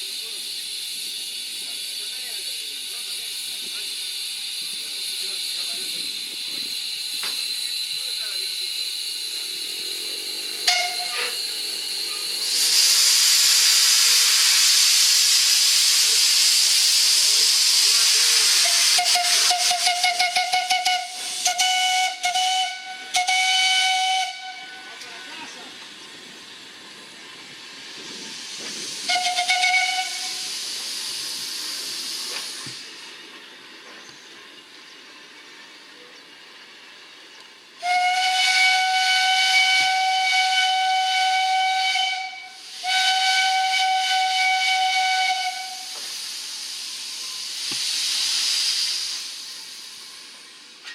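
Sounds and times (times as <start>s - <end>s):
steady hiss: 0.0s - 50.9s.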